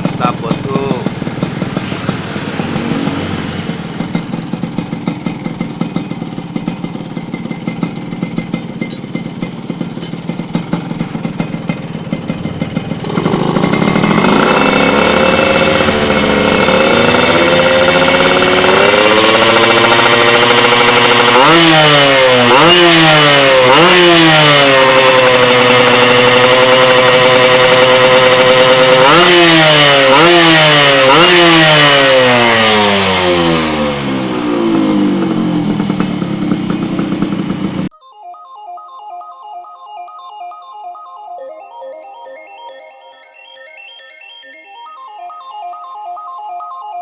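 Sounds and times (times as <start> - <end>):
two-stroke motorcycle engine revving: 0.0 - 37.9.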